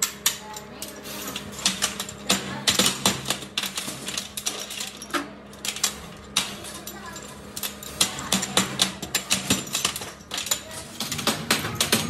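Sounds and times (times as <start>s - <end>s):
metal parts clacking: 0.0s - 12.0s.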